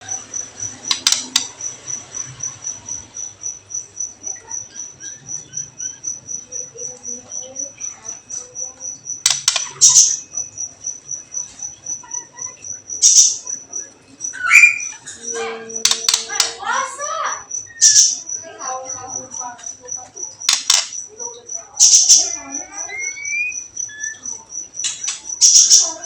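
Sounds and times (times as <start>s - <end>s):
high-pitched cricket-like trill: 0.0s - 26.0s.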